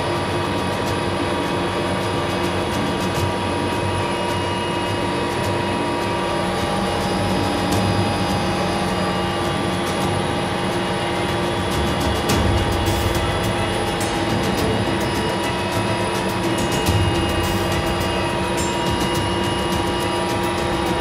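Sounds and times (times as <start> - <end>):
helicopter rotor and engine noise: 0.0 - 21.0
helicopter whine: 0.0 - 21.0.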